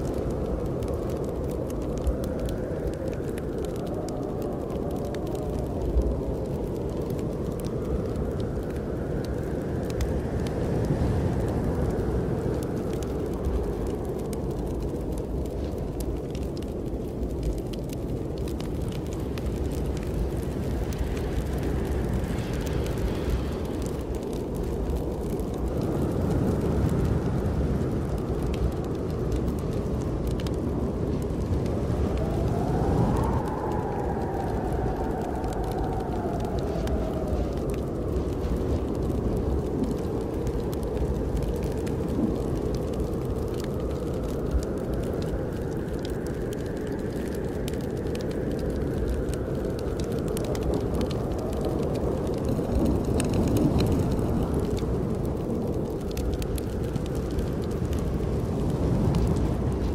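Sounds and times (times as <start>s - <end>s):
wind blowing: 0.0s - 59.9s
wood fire crackling: 0.0s - 59.9s.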